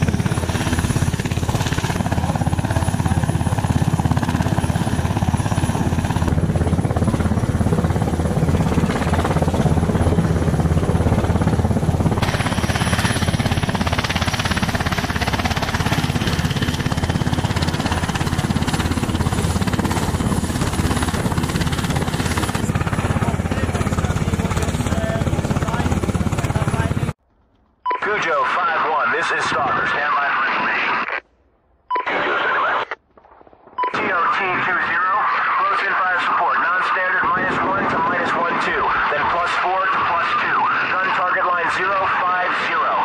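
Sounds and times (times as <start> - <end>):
helicopter rotor beating: 0.0 - 27.2, 33.3 - 43.0.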